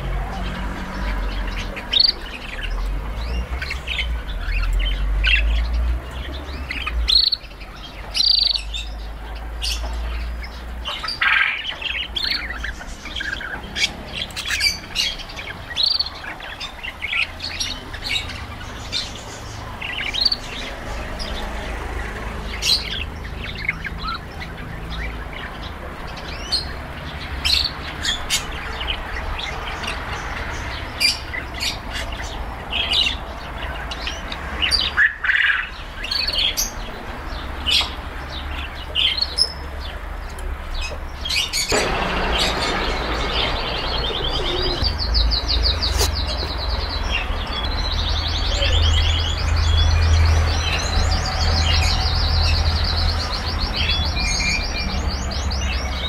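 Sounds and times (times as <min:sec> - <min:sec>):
canaries chirping: 0:00.0 - 0:56.0.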